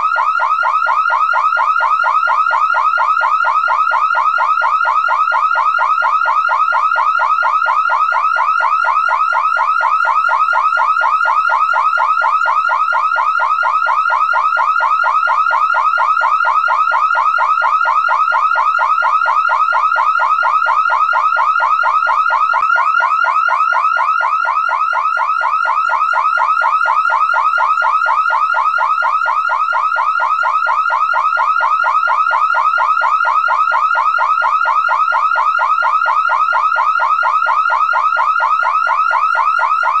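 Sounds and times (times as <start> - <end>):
car alarm siren warbling: 0.0 - 40.0.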